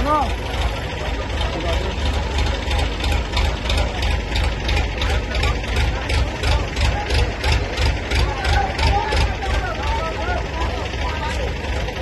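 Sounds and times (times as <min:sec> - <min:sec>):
truck engine pulsing rumble: 0:00.0 - 0:12.0.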